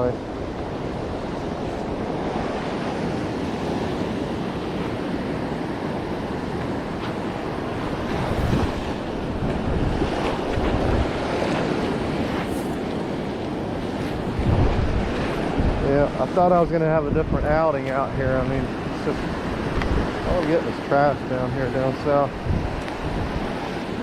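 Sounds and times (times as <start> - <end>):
ocean surf washing on beach: 0.0 - 24.0
wind buffeting microphone: 0.0 - 24.0.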